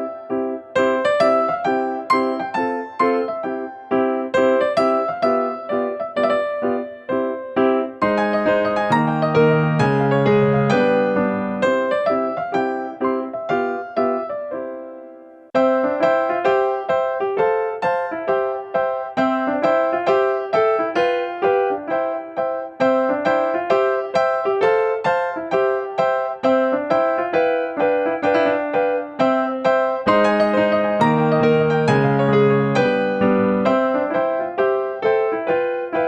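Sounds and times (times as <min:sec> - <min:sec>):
light keyboard tune: 0:00.0 - 0:36.0.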